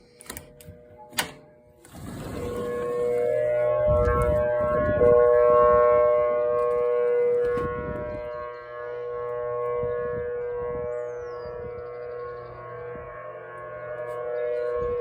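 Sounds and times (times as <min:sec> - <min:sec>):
warning sirens two-note chord: 0:00.0 - 0:15.0.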